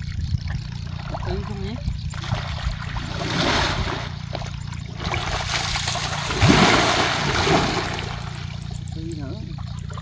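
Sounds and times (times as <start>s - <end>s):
pond water splashing: 0.0s - 10.0s.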